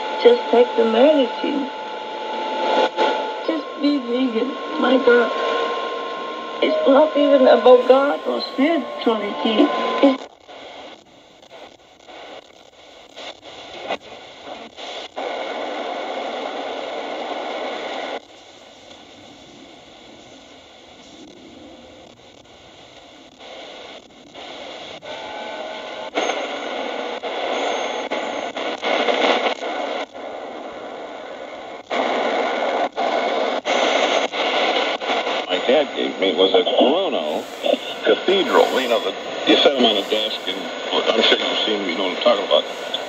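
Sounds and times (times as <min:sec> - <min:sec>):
shortwave radio static: 0:00.0 - 0:19.1, 0:22.9 - 0:43.0
radio crackles: 0:00.0 - 0:21.4, 0:22.1 - 0:25.2, 0:25.8 - 0:43.0.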